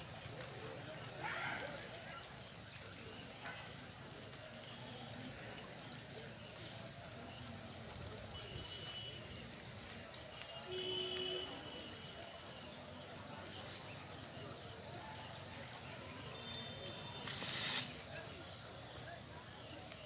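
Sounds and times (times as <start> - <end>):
water trickling and dripping: 0.0 - 20.0.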